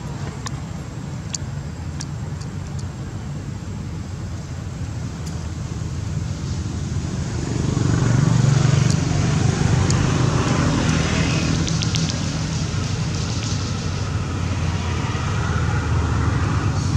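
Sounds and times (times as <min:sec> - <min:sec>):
low traffic rumble: 0:00.0 - 0:16.9
passing vehicle engine rumble: 0:00.0 - 0:16.9.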